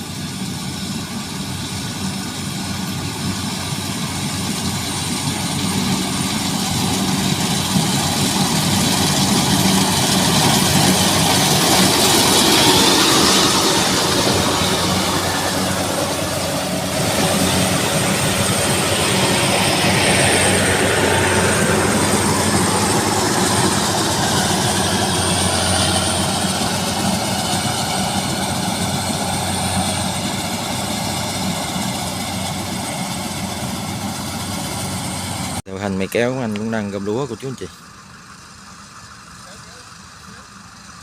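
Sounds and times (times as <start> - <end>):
combine harvester engine drone: 0.0 - 41.0.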